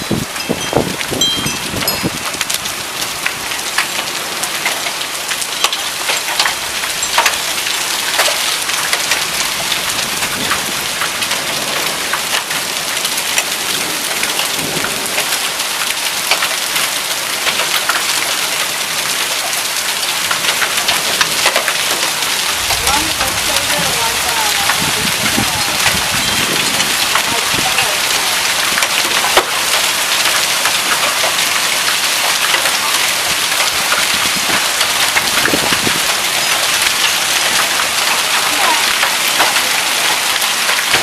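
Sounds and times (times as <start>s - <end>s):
hailstones ticking on surfaces: 0.0s - 41.0s
heavy rain hiss: 0.1s - 41.0s.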